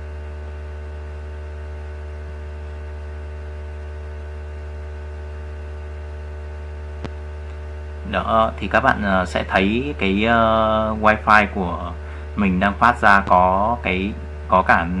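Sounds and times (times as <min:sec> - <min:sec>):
electrical hum and buzz: 0:00.0 - 0:15.0.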